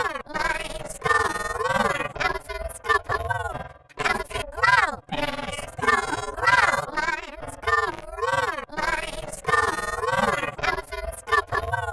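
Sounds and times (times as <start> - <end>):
distorted voice chanting: 0.0 - 11.9.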